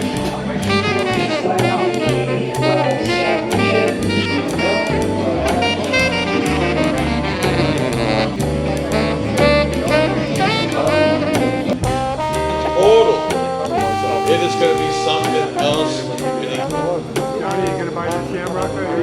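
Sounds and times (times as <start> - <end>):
bass line: 0.0 - 19.0
drums with steady beat: 0.0 - 19.0
saxophone and brass playing: 0.0 - 19.0.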